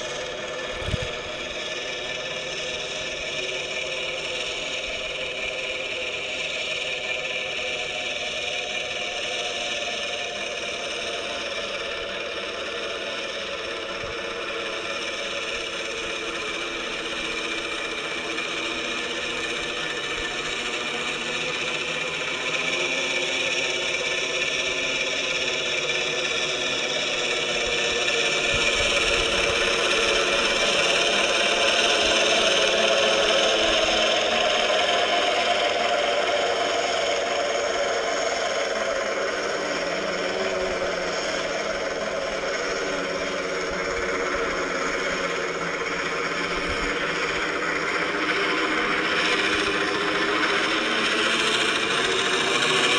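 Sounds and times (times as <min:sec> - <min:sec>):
quadcopter propellers whirring: 0:00.0 - 0:52.9
simulated helicopter engine sound: 0:00.0 - 0:52.9.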